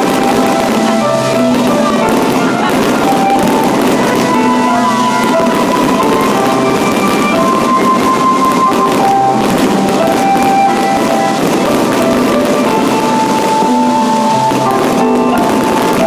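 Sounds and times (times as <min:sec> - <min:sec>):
fireworks bursting and crackling: 0:00.0 - 0:16.0
loud music with melody: 0:00.0 - 0:16.0.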